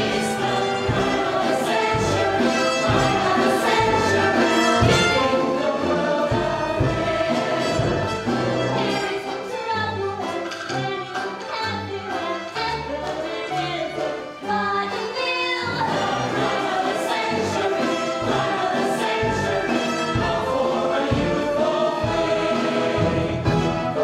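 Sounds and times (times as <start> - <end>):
pit orchestra: 0.0 - 24.0.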